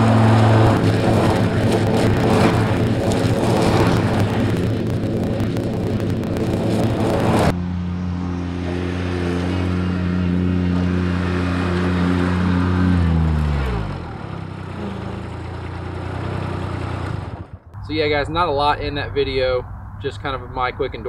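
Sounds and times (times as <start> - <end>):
mower diesel engine: 0.0 - 17.7.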